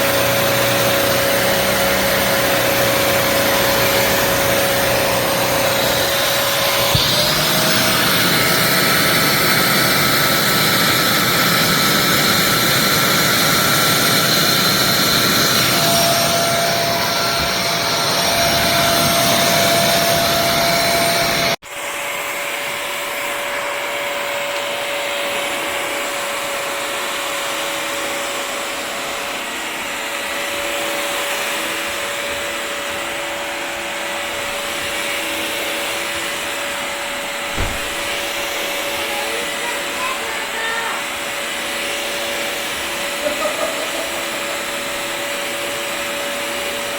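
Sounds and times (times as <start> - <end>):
wet-dry vacuum motor whine: 0.0 - 46.9.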